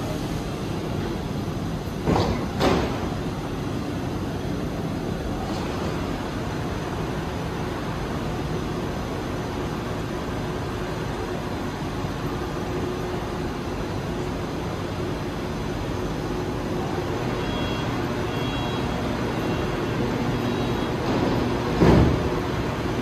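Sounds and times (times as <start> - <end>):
station ambience: 0.0 - 23.0
train equipment humming: 0.0 - 23.0.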